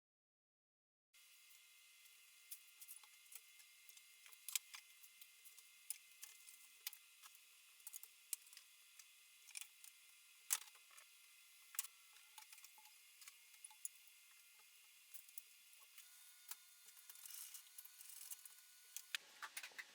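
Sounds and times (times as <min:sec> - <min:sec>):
small objects clicking and tapping: 0:02.5 - 0:19.9.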